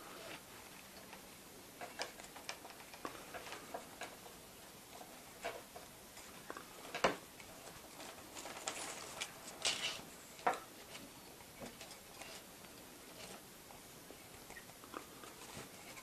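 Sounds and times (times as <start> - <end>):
soft crinkling: 0.0 - 16.0.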